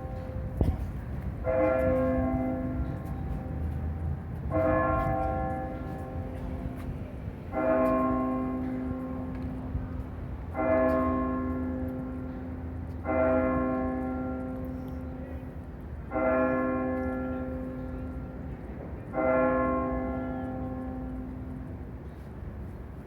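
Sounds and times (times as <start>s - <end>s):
church bell tolling: 0.0s - 6.9s, 7.5s - 9.6s, 10.4s - 21.8s.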